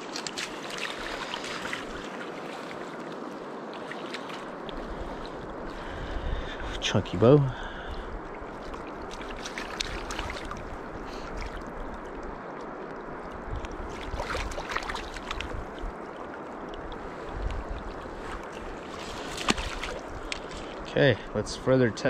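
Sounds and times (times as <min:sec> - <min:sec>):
river current rushing: 0:00.0 - 0:22.0
water splashes: 0:00.0 - 0:22.0.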